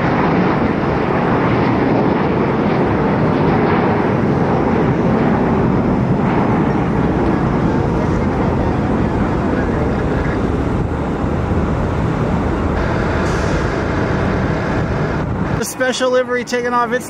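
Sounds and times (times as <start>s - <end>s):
jet engines at takeoff thrust: 0.0s - 17.0s.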